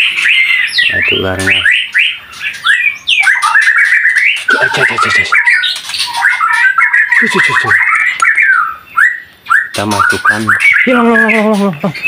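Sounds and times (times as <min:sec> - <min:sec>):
starling harsh scolding squawks: 0:00.0 - 0:12.0.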